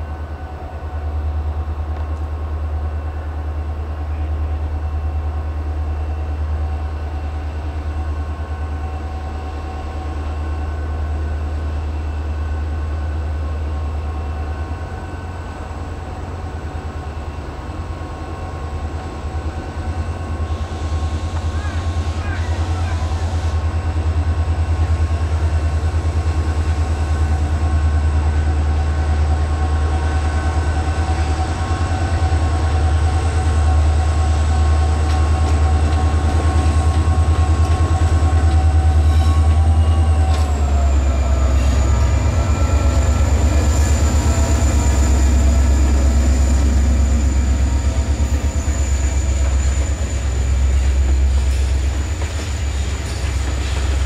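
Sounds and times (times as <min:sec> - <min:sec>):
diesel locomotive engine drone: 0:00.0 - 0:54.0
train wheels rumbling on rails: 0:00.0 - 0:54.0.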